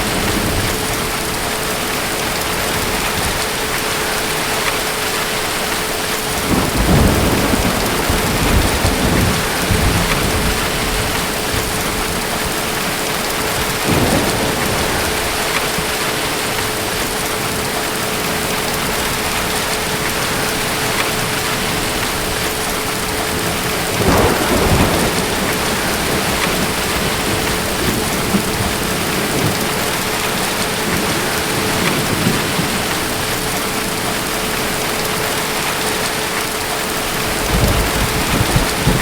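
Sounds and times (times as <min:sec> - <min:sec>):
heavy rain: 0:00.0 - 0:39.0
thunder rumbling: 0:00.0 - 0:39.0.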